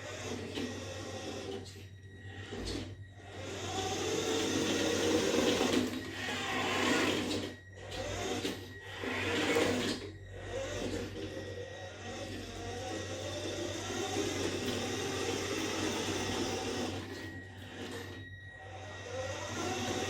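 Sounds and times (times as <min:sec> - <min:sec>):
toy car electric motor and gears: 0:00.0 - 0:20.0.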